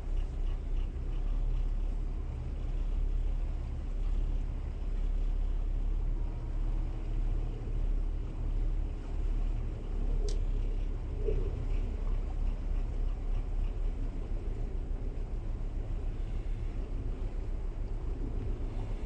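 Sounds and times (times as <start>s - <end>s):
diesel engines low rumble: 0.0s - 19.0s.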